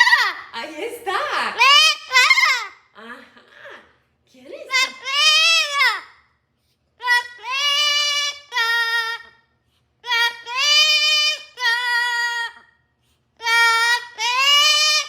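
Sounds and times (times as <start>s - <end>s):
parrot calling loudly: 0.0s - 3.0s, 4.6s - 6.3s, 7.0s - 12.8s, 13.4s - 15.0s.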